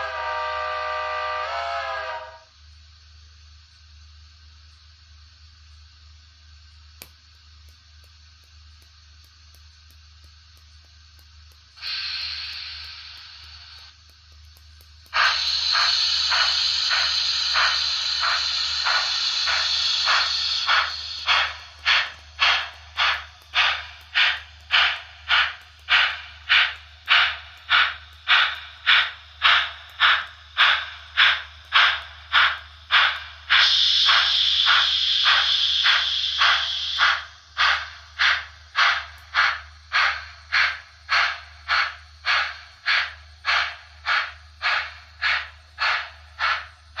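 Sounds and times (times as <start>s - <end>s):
model train hissing chuffs: 0.0s - 3.2s, 4.0s - 47.0s
continuous steam hiss: 0.0s - 47.0s
steady low hum: 2.4s - 47.0s.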